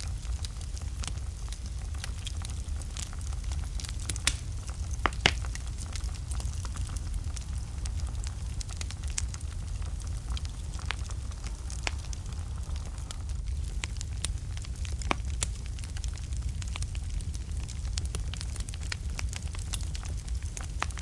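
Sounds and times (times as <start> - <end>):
fire crackles and pops: 0.0 - 21.0
fire rumbling: 0.0 - 21.0.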